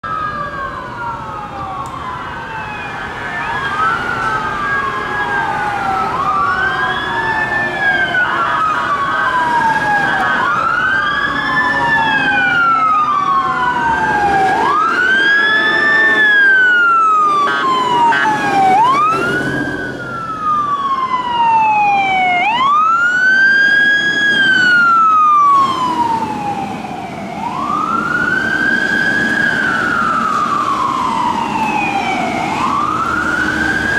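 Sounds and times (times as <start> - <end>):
sirens wailing: 0.0 - 33.9.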